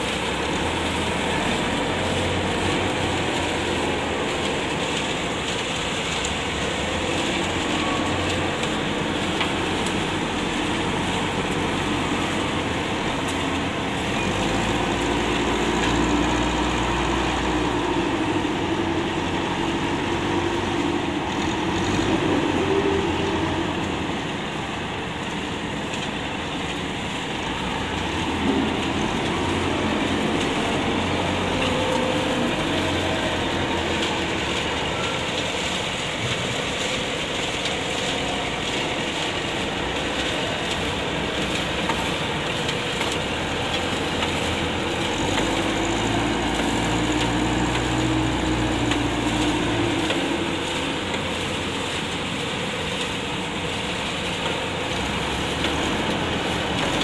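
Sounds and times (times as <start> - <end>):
wheel loader diesel engine running: 0.0 - 57.0.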